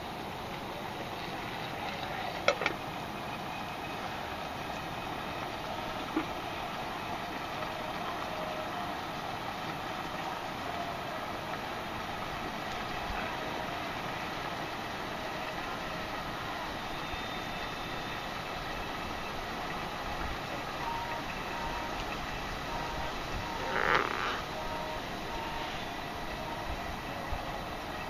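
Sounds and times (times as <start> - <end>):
campfire burning: 0.0 - 28.0.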